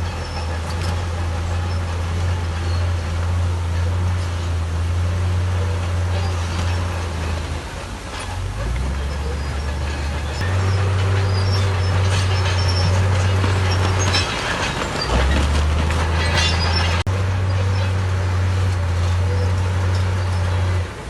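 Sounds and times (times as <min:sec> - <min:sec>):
bulldozer diesel engine running: 0:00.0 - 0:21.0
metallic squeals and clanks of tracks: 0:00.0 - 0:21.0.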